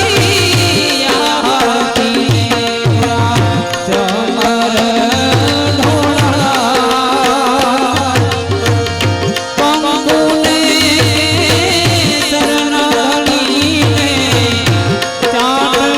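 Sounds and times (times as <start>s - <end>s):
harmonium tones: 0.0s - 15.9s
tabla rhythm: 0.0s - 15.9s.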